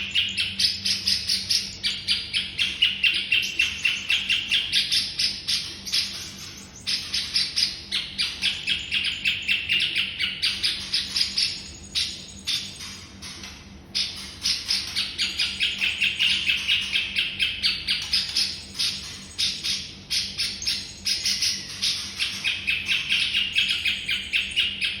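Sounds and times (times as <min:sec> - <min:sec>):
songbird chirping: 0:00.0 - 0:25.0.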